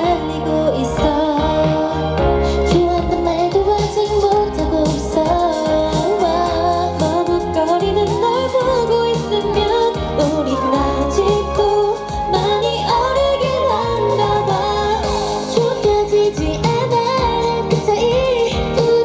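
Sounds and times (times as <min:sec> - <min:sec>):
dance-pop song with female vocals: 0:00.0 - 0:19.0.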